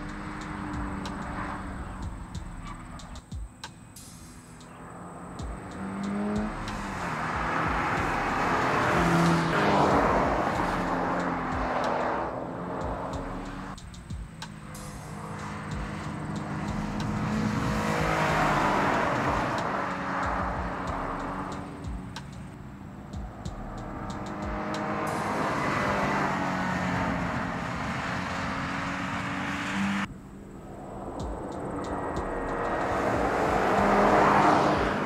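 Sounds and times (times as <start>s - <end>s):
tyre and wind noise: 0.0s - 4.0s, 4.6s - 35.0s
car engine running: 0.0s - 35.0s.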